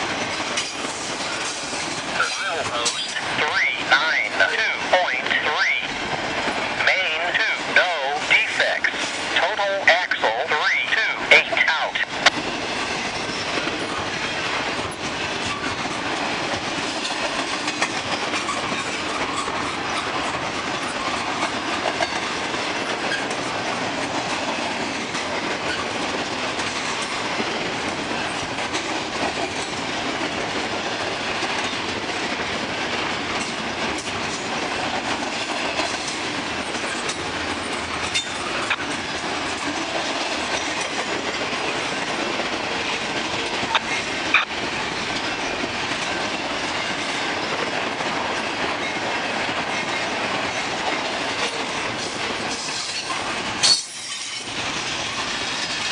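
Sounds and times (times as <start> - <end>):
train wheel clicks: 0.0 - 3.4, 12.1 - 55.9
train wheels rushing on rail: 0.0 - 55.9.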